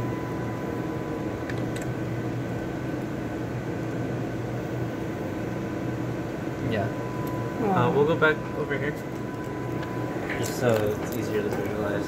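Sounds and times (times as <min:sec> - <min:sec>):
faint steady tones: 0:00.0 - 0:12.0
fans and ventilation hum: 0:00.0 - 0:12.0.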